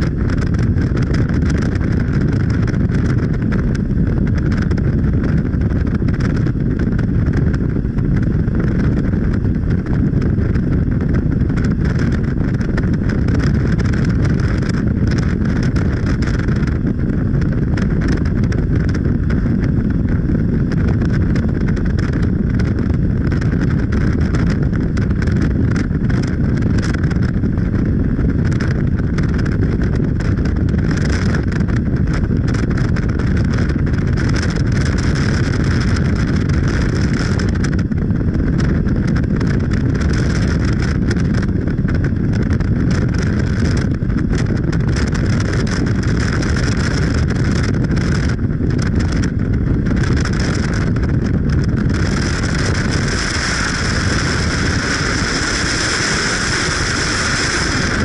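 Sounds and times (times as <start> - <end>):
vehicle rumble: 0.0 - 58.0
wind buffeting microphone: 0.0 - 58.0.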